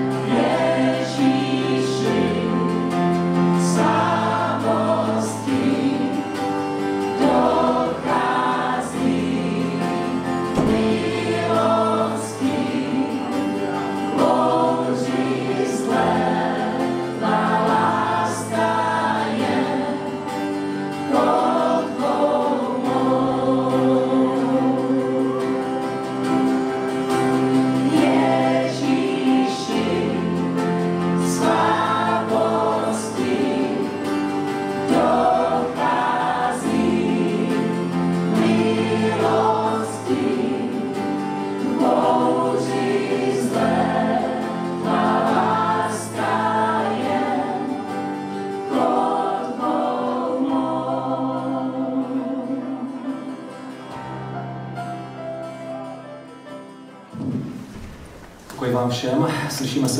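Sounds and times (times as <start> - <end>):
worship band singing: 0.0 - 56.0, 57.1 - 59.9
acoustic guitar: 0.0 - 59.9
keyboard: 0.0 - 59.9.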